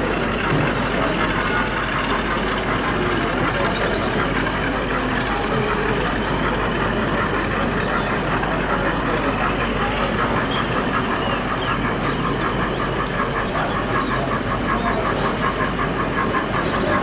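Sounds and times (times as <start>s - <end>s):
crowd chatter: 0.0s - 17.0s
model train running: 0.0s - 17.0s.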